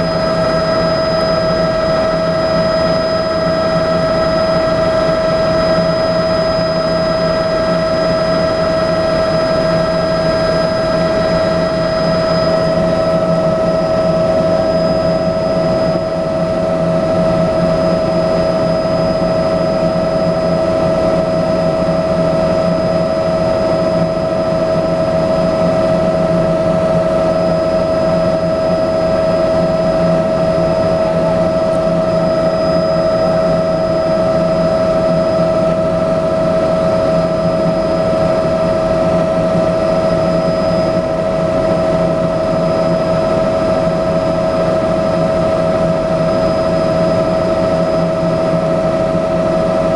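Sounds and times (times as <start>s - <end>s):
helicopter engine whine: 0.0s - 49.9s.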